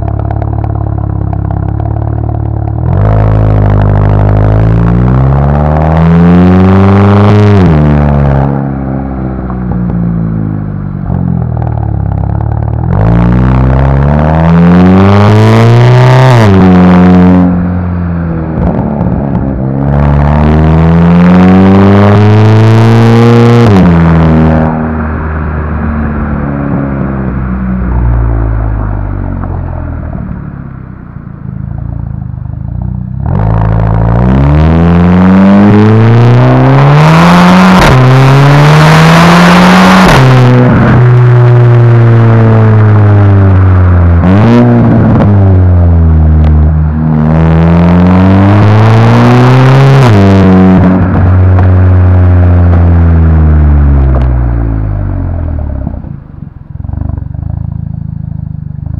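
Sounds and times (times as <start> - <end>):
loud car exhaust revving: 0.0 - 58.9.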